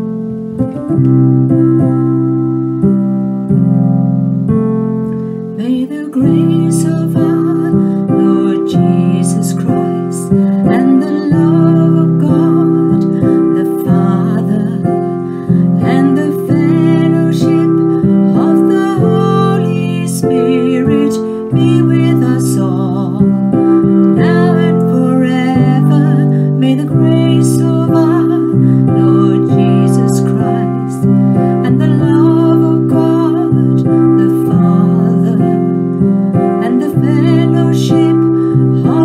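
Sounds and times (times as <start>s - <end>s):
keyboard chords: 0.0s - 39.0s
woman singing: 5.5s - 39.0s.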